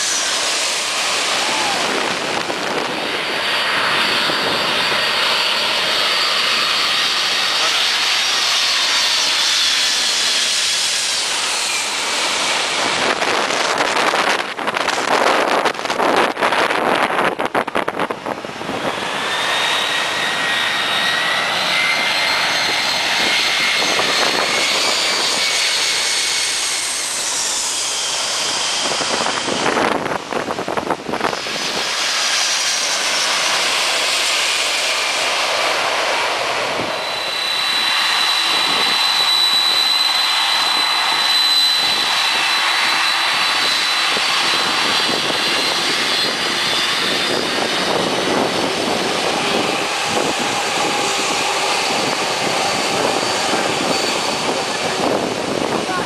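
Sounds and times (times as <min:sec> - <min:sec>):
jet engine high whine: 0:00.0 - 0:56.0
jet engine rushing noise: 0:00.0 - 0:56.0.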